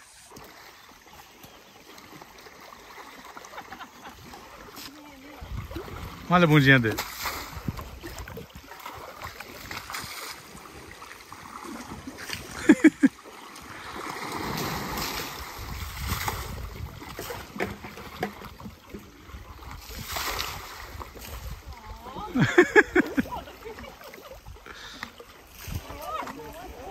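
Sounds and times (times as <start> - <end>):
water splashing and sloshing: 0.0 - 26.9.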